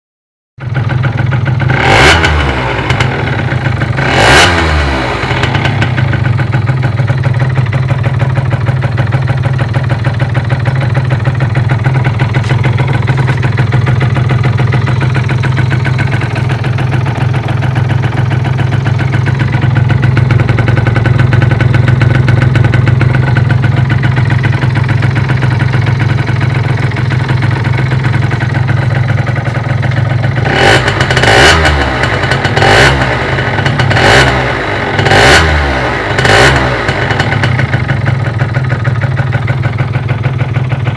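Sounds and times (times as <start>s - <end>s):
moped engine revving and idling: 0.6s - 40.9s.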